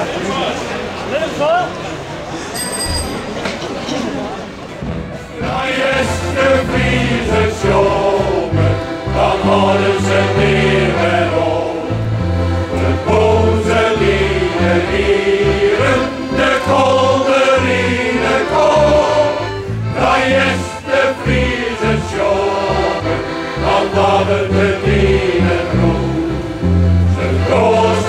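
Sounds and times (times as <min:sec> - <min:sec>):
men's choir singing: 0:05.3 - 0:28.0
bass line: 0:05.4 - 0:28.0.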